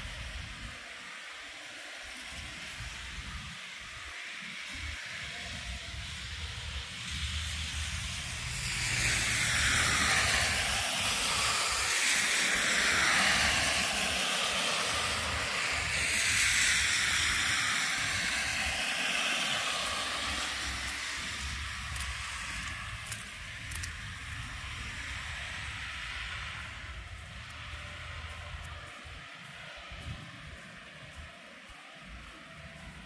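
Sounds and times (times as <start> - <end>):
low traffic rumble: 0.0 - 33.0
vehicles passing on snow: 0.0 - 33.0.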